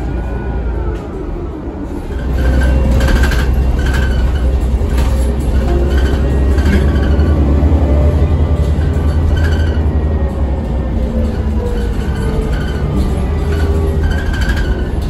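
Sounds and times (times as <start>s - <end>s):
bus diesel engine revving: 1.9s - 15.0s.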